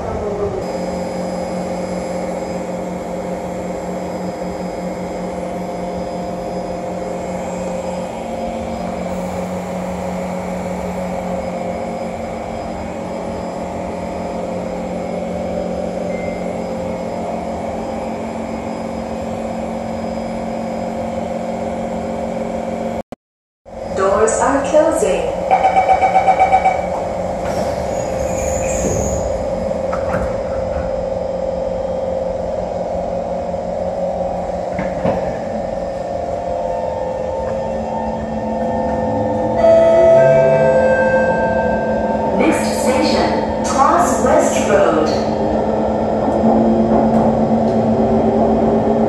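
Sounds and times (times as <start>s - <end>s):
train humming from inside: 0.0s - 23.0s, 23.7s - 49.0s.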